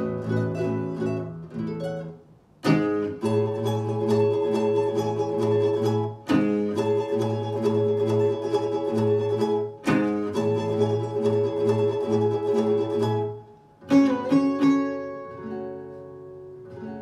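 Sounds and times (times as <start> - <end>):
plucked-string music from loudspeaker: 0.0 - 17.0.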